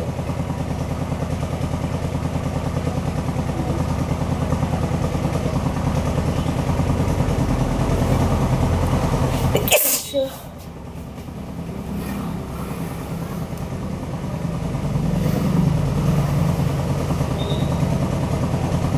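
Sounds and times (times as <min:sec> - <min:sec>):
motor idling: 0:00.0 - 0:18.9.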